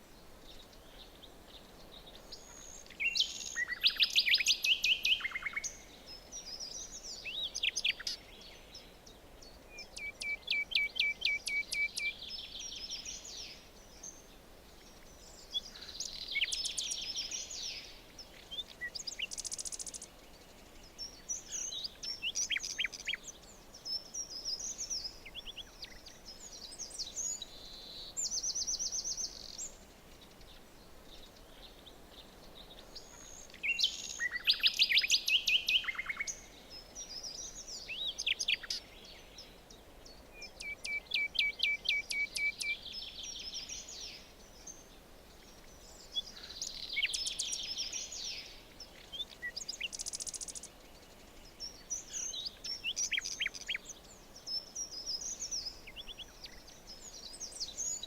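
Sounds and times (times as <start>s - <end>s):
faint steady hiss: 0.0s - 58.0s
songbirds singing and trilling: 0.0s - 58.0s.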